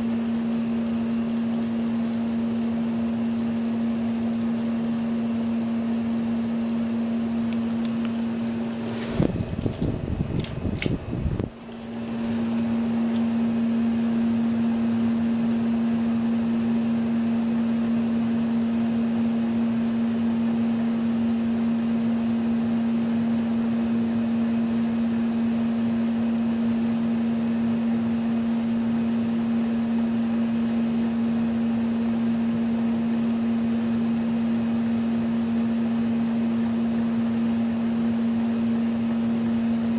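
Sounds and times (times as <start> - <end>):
ceiling fan motor hum: 0.0 - 39.9.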